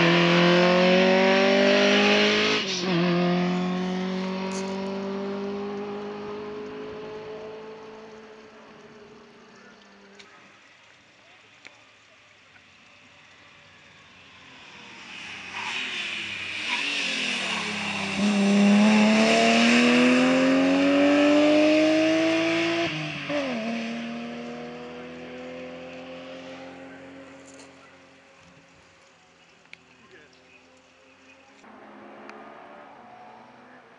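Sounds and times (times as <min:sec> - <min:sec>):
rally car engine accelerating: 0:00.0 - 0:10.1, 0:13.6 - 0:28.3, 0:30.1 - 0:33.9.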